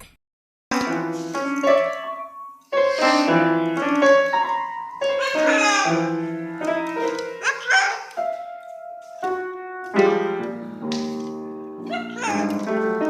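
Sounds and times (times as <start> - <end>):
piano melody: 0.7 - 13.0.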